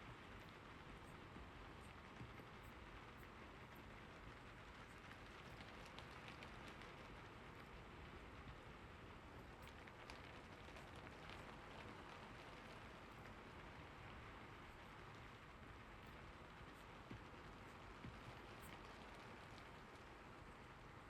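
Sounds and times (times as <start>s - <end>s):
soft steady rain: 0.0s - 21.0s.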